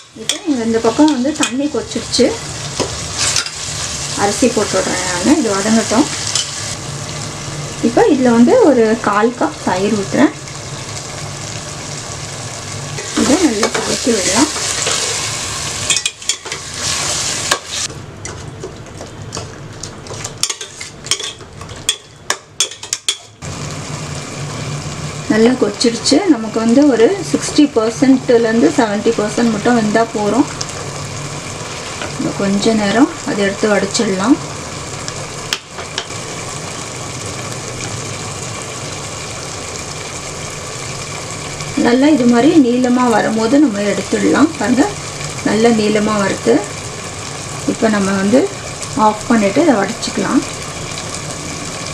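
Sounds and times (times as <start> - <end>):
gravy sizzling in a pot: 0.0 - 51.9.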